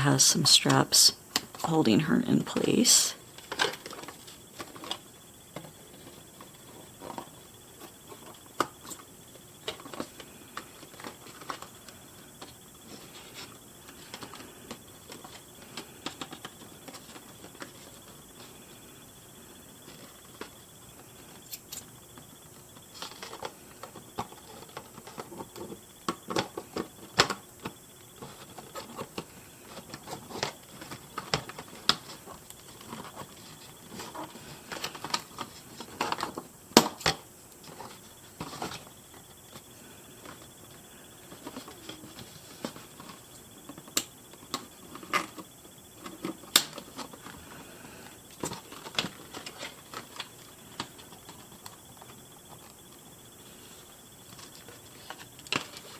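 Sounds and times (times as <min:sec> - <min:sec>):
plastic and cardboard rustling: 0:03.2 - 0:18.8, 0:22.5 - 0:55.9.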